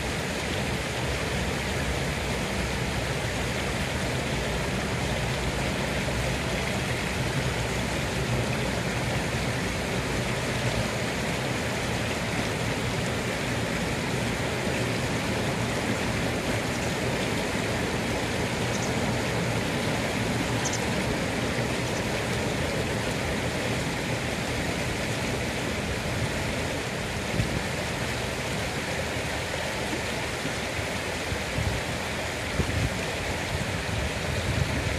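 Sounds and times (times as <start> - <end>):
river water flowing over gravel: 0.0 - 34.9.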